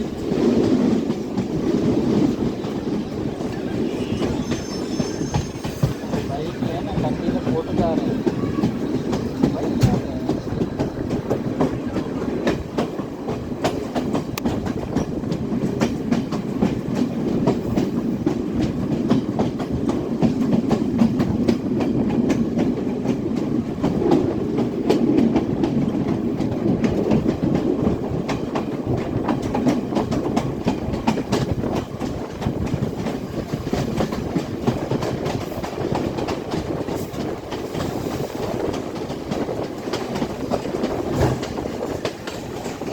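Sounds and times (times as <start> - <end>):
train running along rails: 0.0 - 42.9.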